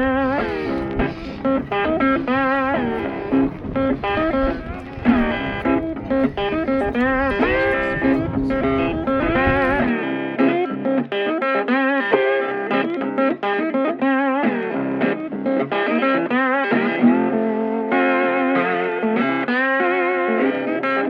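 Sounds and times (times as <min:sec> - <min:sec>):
guitar melody with wavering notes: 0:00.0 - 0:21.0.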